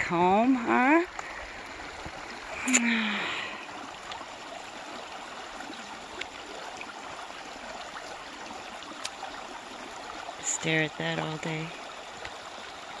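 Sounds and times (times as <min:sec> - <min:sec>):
river water flowing and gurgling: 0:00.0 - 0:13.0.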